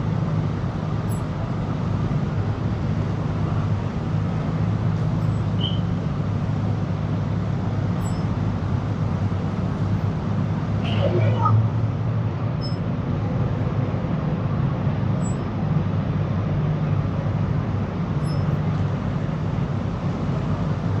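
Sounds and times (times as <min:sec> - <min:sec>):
car engines droning: 0:00.0 - 0:21.0.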